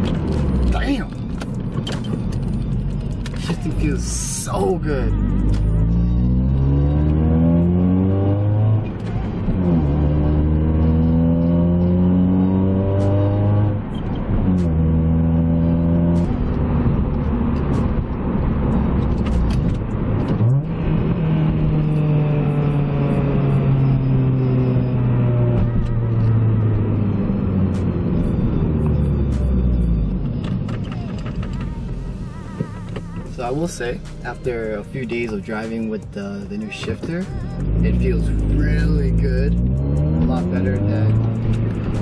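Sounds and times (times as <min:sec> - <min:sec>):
car engine accelerating through gears: 0:00.0 - 0:42.0.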